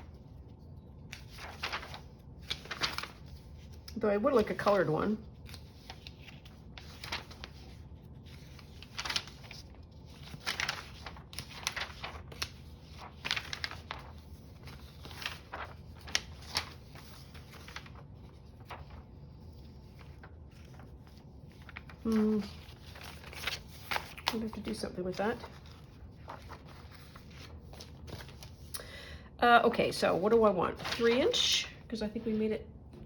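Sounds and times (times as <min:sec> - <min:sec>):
paper rustling and crinkling: 0:00.0 - 0:28.7, 0:29.9 - 0:32.4.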